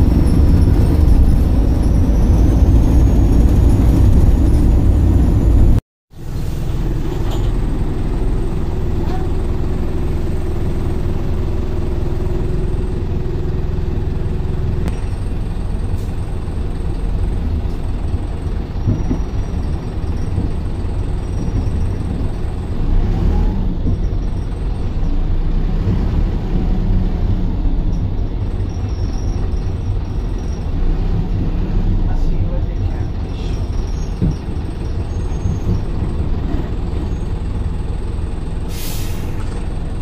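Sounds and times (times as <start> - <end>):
bus engine and road noise: 0.0 - 40.0.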